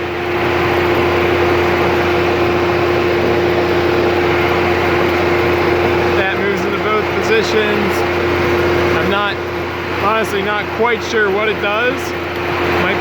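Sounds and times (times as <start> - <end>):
planer running idle: 0.0 - 13.0.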